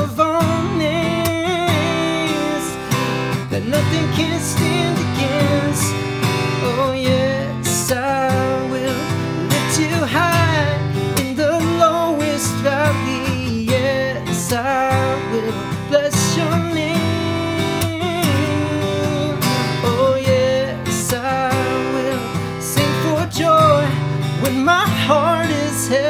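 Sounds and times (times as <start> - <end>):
acoustic guitar strumming: 0.0 - 26.0
man singing: 0.0 - 26.0.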